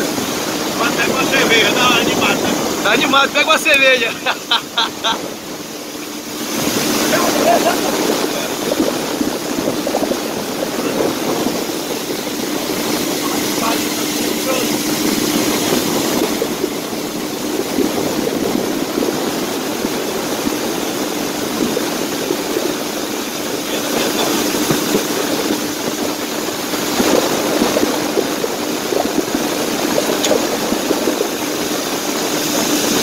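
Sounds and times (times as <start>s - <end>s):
constant rushing noise: 0.0s - 33.0s
outboard motor running: 0.0s - 33.0s.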